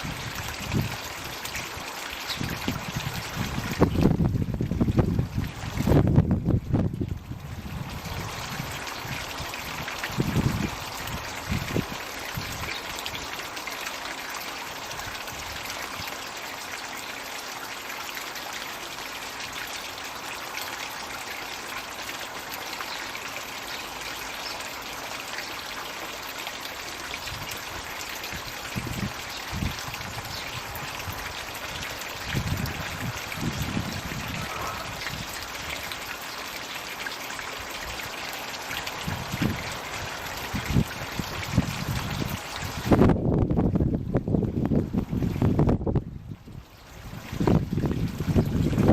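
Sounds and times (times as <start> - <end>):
water trickling and splashing: 0.0 - 48.9.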